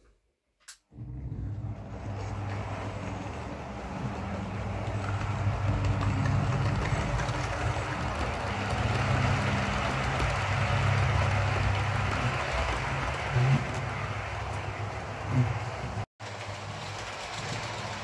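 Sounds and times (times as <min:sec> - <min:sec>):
low motor drone: 0:01.0 - 0:16.0
model train wheels rumbling on track: 0:01.1 - 0:18.0.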